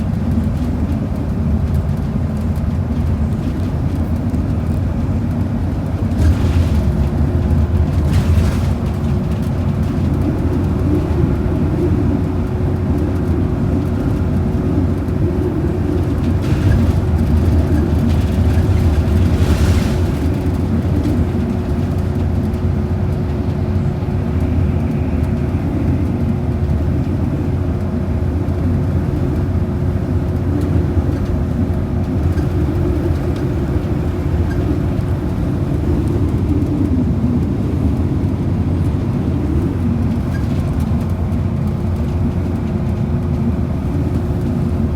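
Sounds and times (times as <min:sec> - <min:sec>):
bus engine and road rumble: 0:00.0 - 0:44.9.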